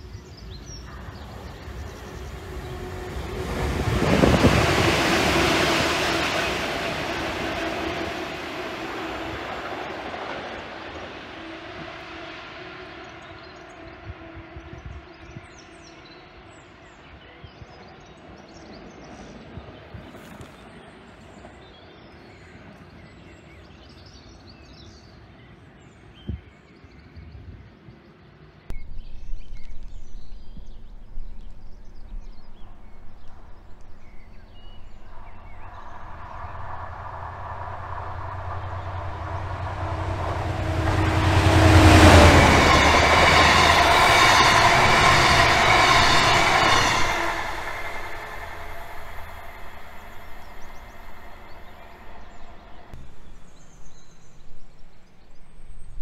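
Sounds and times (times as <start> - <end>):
diesel locomotive passing: 0.0 - 19.9, 28.7 - 55.0
faint birdsong: 4.8 - 56.0.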